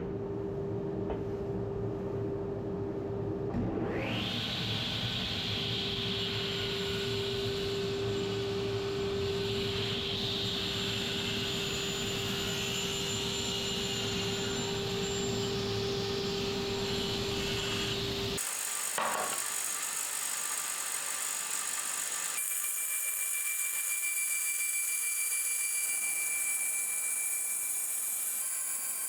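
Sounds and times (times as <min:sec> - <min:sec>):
woodworking machine humming and whirring: 0:03.5 - 0:29.0.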